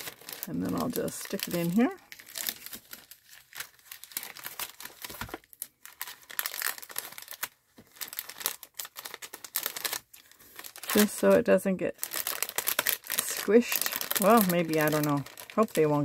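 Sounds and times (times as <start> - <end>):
cellophane bag crinkling: 0.0 - 16.0.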